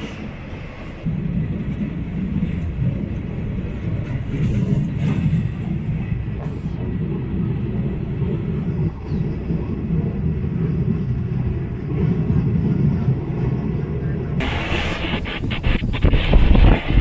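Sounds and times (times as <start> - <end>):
passenger train rumbling: 0.0 - 17.0.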